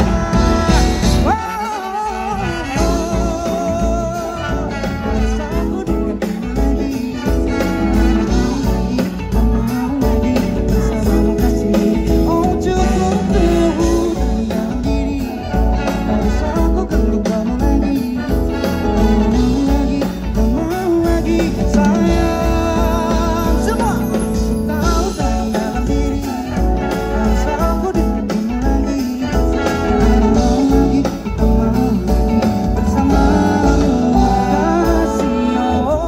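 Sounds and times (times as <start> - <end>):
drums: 0.0 - 36.0
electric guitar: 0.0 - 36.0
keyboard: 0.0 - 36.0
man singing into a microphone: 0.0 - 36.0.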